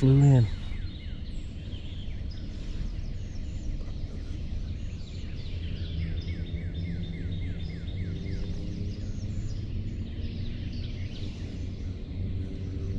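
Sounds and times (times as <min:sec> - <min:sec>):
small songbirds chirping: 0:00.0 - 0:12.9
steady low hum: 0:00.0 - 0:12.9.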